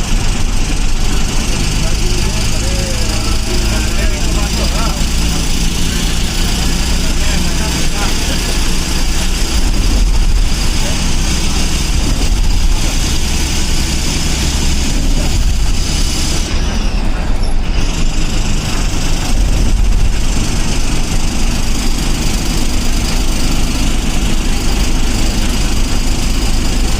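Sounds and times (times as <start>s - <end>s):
diesel bus engine rumbling: 0.0s - 26.9s
road and cabin noise: 0.0s - 26.9s.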